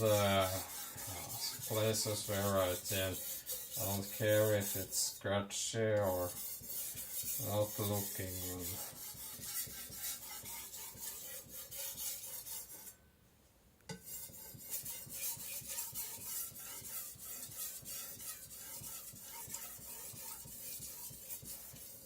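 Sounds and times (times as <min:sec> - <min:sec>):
blade scraping on whetstone: 0:00.0 - 0:05.2, 0:06.0 - 0:13.0, 0:13.9 - 0:22.0.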